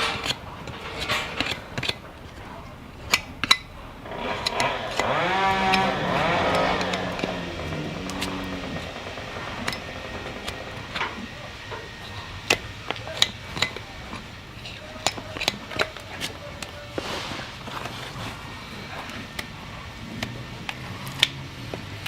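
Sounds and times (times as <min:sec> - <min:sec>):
farrier's tools tapping a hoof: 0:00.0 - 0:18.0, 0:18.7 - 0:22.0.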